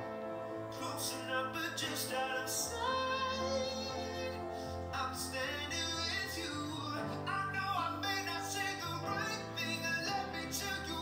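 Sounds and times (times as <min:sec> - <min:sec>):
man singing: 0:00.6 - 0:11.0.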